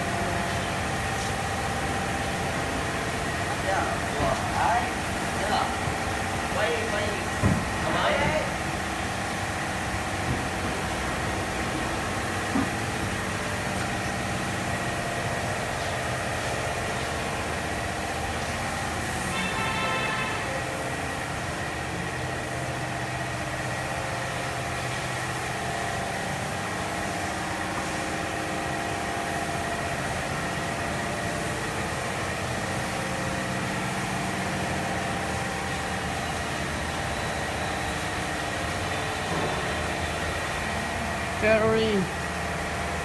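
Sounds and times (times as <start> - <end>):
engine idling hum: 0.0 - 43.0.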